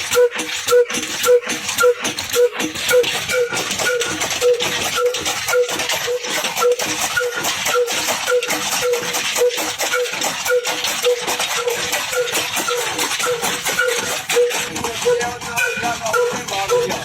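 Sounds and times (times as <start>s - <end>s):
diesel engine metallic clatter: 0.0s - 17.0s
short squeak: 0.1s - 17.0s.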